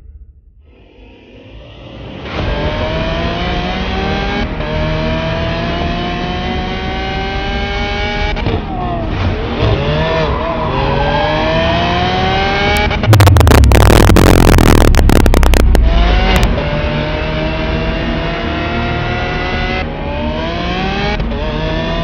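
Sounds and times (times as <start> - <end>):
sports car engine accelerating: 2.2 - 22.0.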